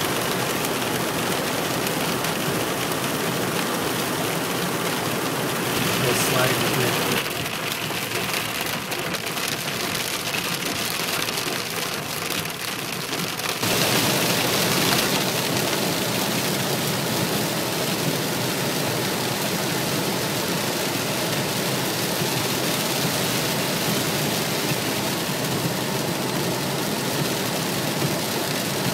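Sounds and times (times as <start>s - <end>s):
car road noise: 0.0s - 28.9s
hail pelting car roof: 0.0s - 28.9s.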